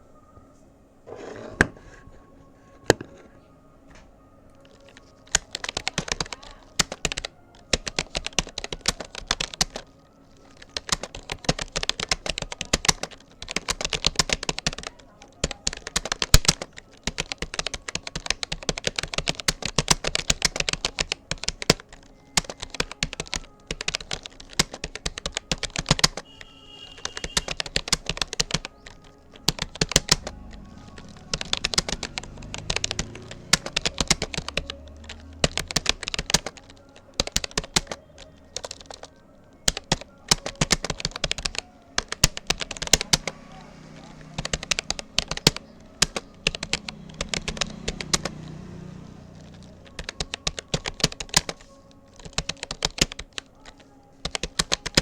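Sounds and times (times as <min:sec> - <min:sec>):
fast keyboard typing: 0:04.5 - 0:55.0.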